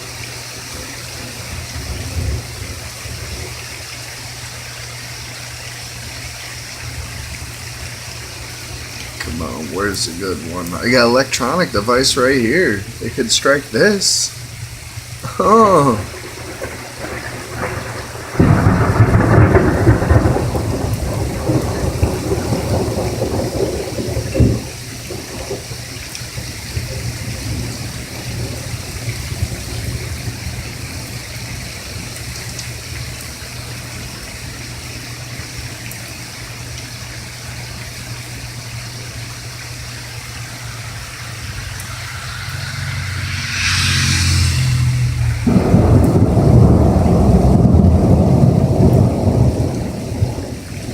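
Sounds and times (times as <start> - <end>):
steady rain: 0.0 - 50.9
thunder rumbling: 0.6 - 3.7, 6.8 - 34.2, 39.7 - 50.9.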